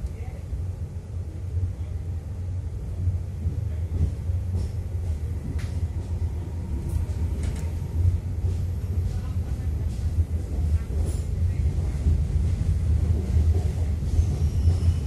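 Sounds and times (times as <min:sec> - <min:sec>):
train wheels rumbling: 0:02.6 - 0:15.0.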